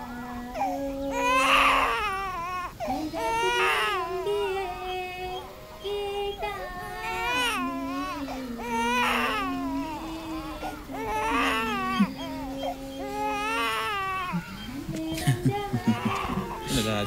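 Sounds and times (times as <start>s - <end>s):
baby crying: 0.0s - 17.0s.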